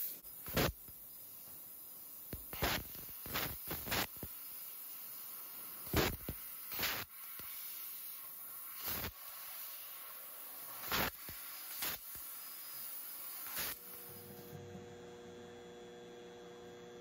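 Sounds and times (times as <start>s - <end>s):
sharp bursts of hissing: 0.0s - 14.3s
steady hiss of assist gas: 0.0s - 14.6s.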